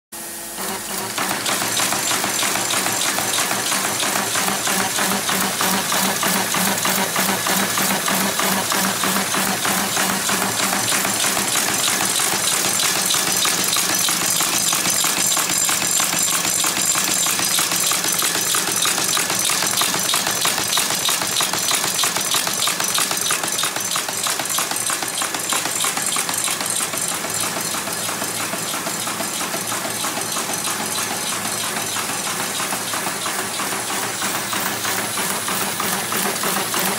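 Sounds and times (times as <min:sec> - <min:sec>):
paper folding machine clattering: 0:00.6 - 0:36.9.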